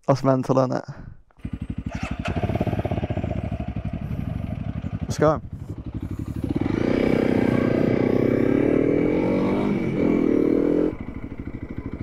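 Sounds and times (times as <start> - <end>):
motorcycle engine accelerating: 1.4 - 12.0.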